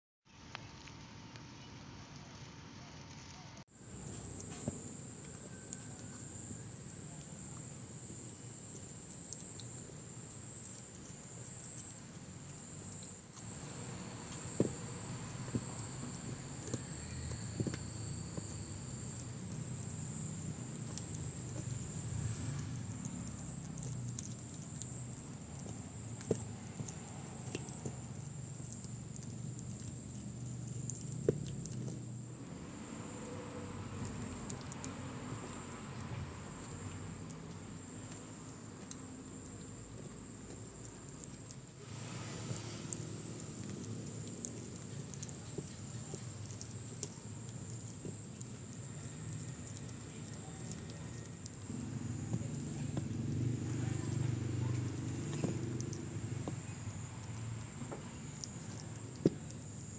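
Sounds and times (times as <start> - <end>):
kitten chewing: 3.8 - 59.9.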